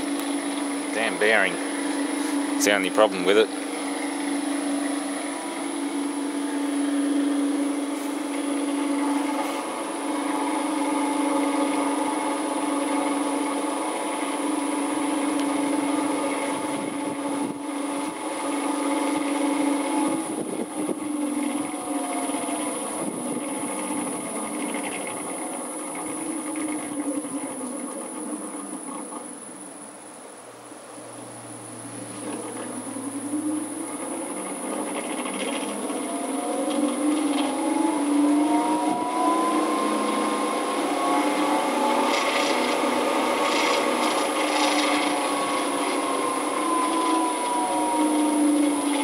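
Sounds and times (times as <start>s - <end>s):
electric motor humming: 0.0s - 49.0s
motor bearing noise: 0.0s - 49.0s.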